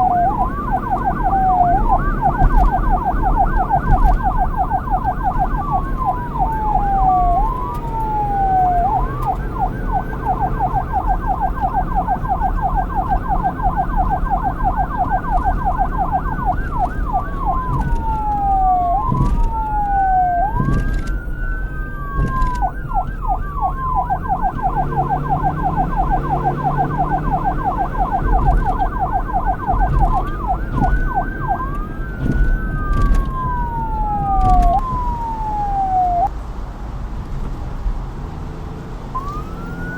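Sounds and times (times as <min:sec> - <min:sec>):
police siren wailing and yelping: 0:00.0 - 0:36.3, 0:39.2 - 0:39.9
low engine rumble: 0:00.0 - 0:38.2.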